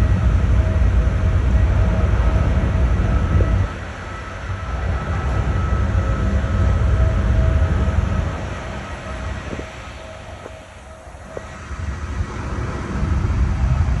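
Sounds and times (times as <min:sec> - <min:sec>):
loud mechanical rumble: 0:00.0 - 0:14.0.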